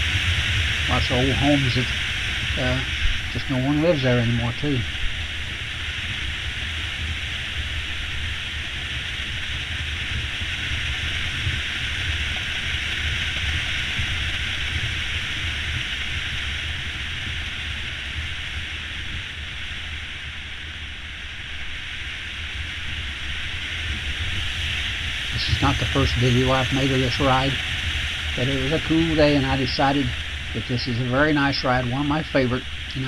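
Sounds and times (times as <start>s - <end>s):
motorcycle engine drone: 0.0s - 33.0s
wind rushing over microphone: 0.0s - 33.0s.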